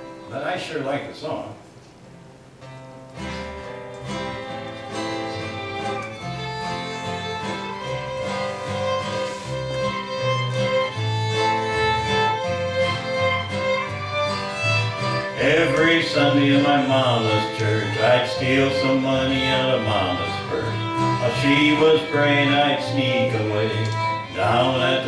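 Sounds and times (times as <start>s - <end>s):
fiddle playing long held notes: 0.0s - 0.8s, 4.0s - 25.0s
guitar accompaniment: 0.0s - 25.0s.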